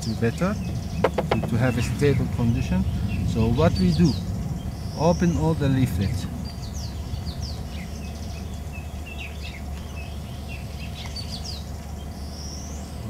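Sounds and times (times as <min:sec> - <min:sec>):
birds chirping: 0:00.0 - 0:13.0
low background hum: 0:00.0 - 0:13.0.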